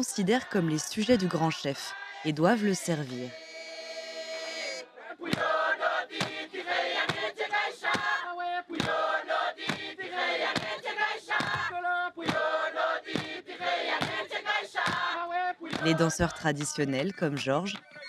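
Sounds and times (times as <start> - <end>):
group chanting and singing: 0.0 - 18.0.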